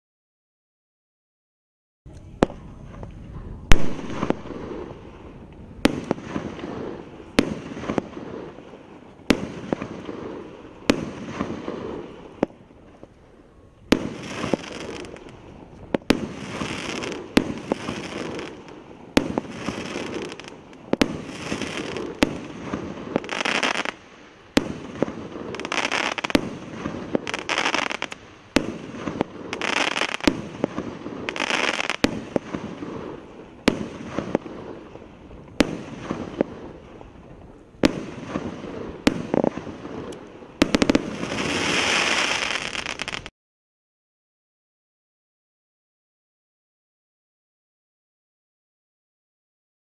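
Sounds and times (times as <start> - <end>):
hissing crackle of fireworks: 2.1 - 43.3
firework bangs: 2.3 - 13.2, 13.8 - 43.3.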